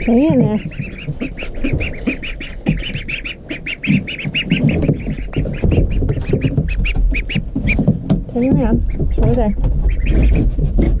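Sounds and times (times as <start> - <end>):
chickens calling: 0.0 - 11.0
chickens clucking: 0.0 - 11.0.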